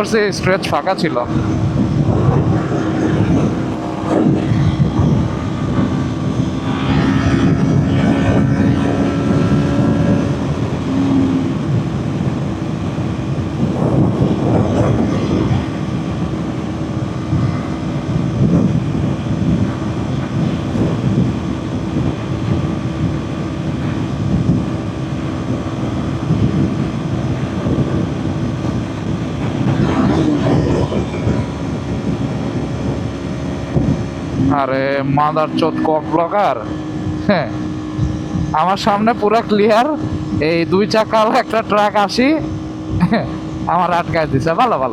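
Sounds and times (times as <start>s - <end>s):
motorcycle engine cruising: 0.0s - 44.9s
wind noise: 0.0s - 44.9s.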